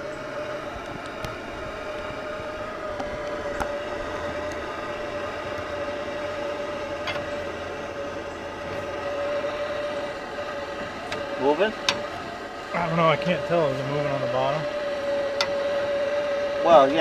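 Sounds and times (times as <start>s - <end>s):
tractor diesel engine whining: 0.0s - 17.0s.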